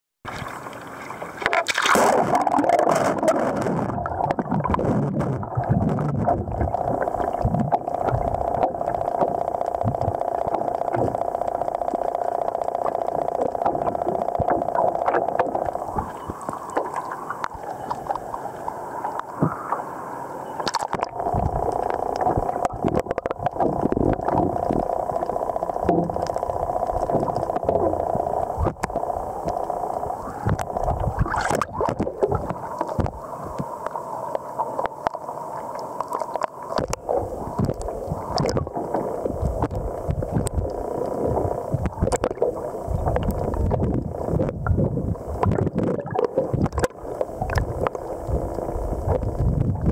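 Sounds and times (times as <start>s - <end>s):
water sloshing and gurgling: 0.2s - 49.9s.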